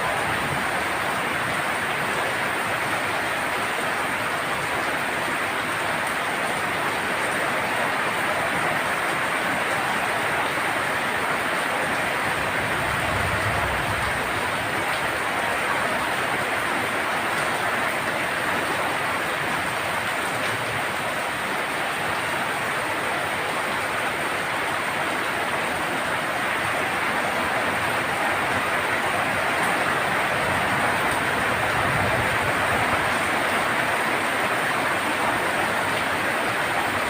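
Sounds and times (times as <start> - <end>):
heavy rain on a tin roof: 0.0 - 37.0.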